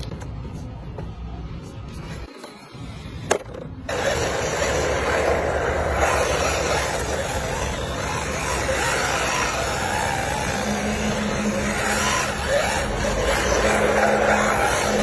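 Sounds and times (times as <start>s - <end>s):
rc car wheels rolling: 1.9s - 15.0s.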